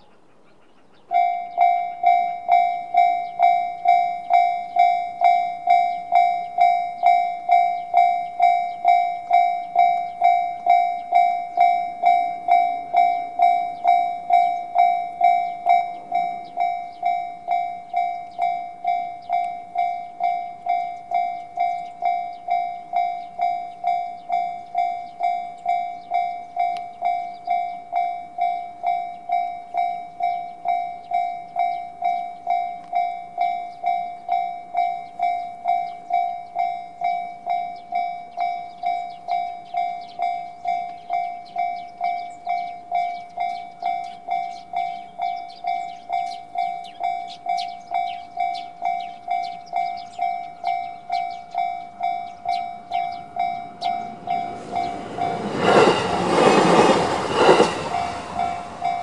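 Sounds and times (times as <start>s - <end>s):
level-crossing bell dinging: 1.1s - 59.0s.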